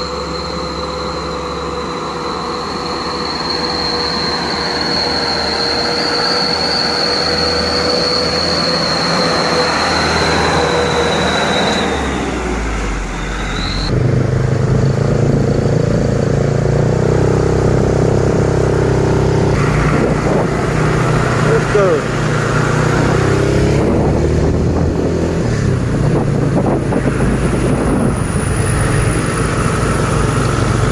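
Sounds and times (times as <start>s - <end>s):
high-pitched squeal: 0.0s - 30.9s
truck engine running close by: 0.0s - 30.9s
vehicle noise: 0.0s - 30.9s.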